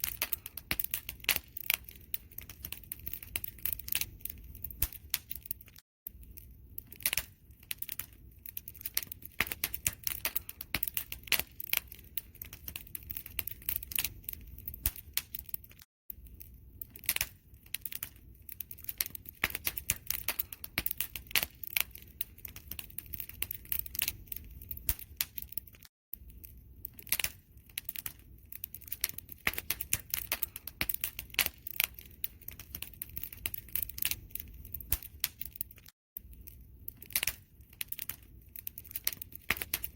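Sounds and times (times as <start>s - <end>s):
low fire rumble: 0.0s - 39.9s
wood fire crackling: 0.0s - 39.9s.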